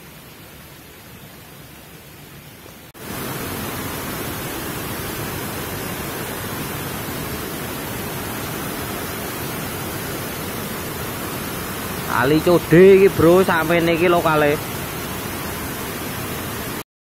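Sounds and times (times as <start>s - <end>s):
steady rushing hiss: 0.0s - 16.8s.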